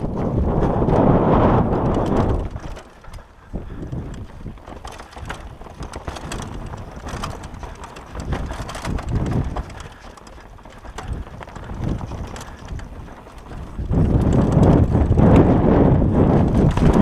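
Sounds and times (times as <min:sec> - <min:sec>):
tyres crunching over loose stones: 0:00.0 - 0:15.6, 0:16.2 - 0:17.0
bike rattling and clattering: 0:00.0 - 0:17.0
wind noise on microphone: 0:00.0 - 0:17.0.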